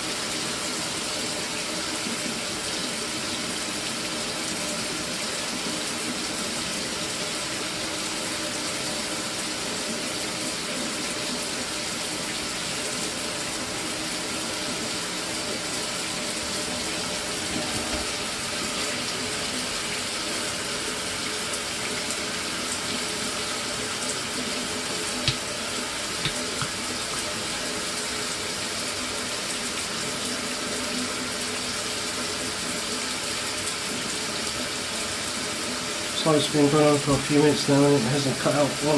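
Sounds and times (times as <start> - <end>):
shower water spraying: 3.7 - 38.9.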